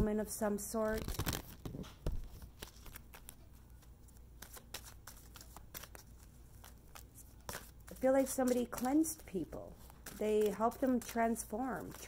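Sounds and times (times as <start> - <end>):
cards shuffling: 0.8 - 12.0.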